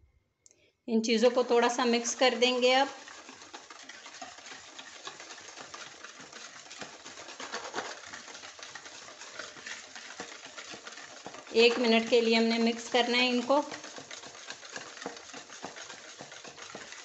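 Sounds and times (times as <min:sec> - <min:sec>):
whisk beating in a bowl: 0:00.9 - 0:17.0.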